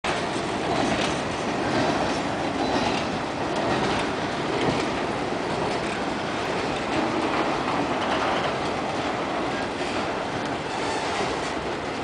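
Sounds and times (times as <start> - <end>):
steel wheels rolling on rails: 0.1 - 12.0.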